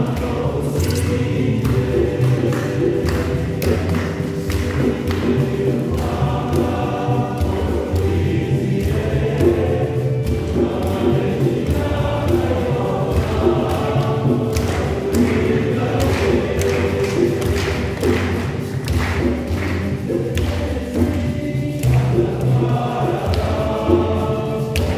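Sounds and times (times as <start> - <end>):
choir singing a lively song: 0.0 - 24.9
steady drum beat: 0.0 - 24.9.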